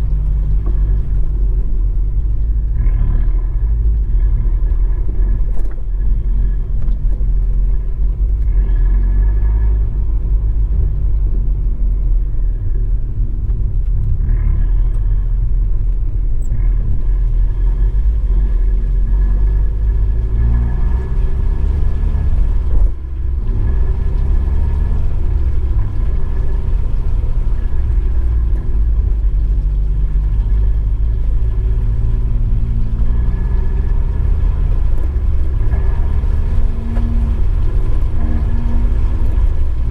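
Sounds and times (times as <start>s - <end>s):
car engine low rumble: 0.0s - 39.9s
road noise: 0.0s - 39.9s.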